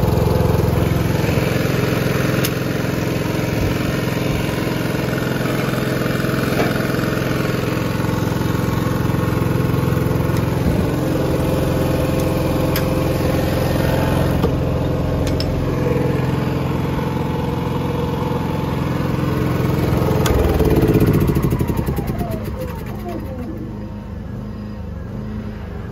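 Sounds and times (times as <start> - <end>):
generator engine running: 0.0 - 24.3.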